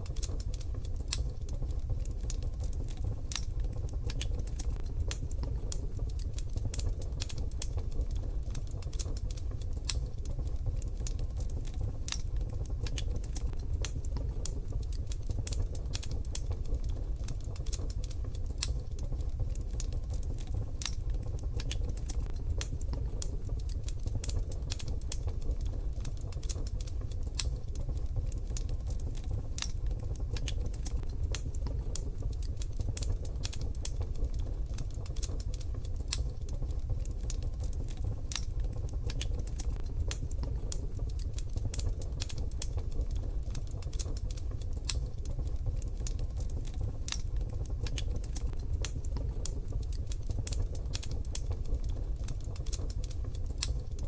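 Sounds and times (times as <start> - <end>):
steady low rumble: 0.0 - 54.0
wood fire crackling: 0.0 - 54.0.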